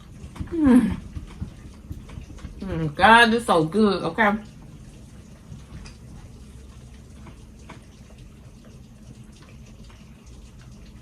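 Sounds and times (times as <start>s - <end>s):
rain patting on a window: 0.0s - 11.0s.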